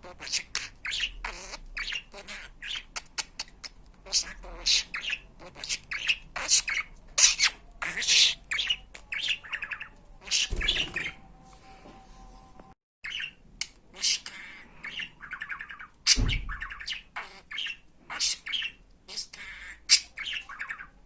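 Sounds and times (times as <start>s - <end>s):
budgerigar chattering: 0.0s - 11.2s, 13.0s - 21.0s.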